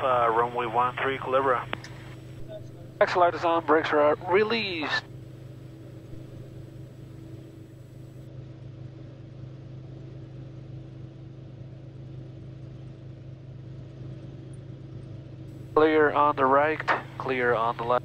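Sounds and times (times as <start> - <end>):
faint constant tone: 0.0 - 18.0
propeller plane engine droning: 0.0 - 18.0.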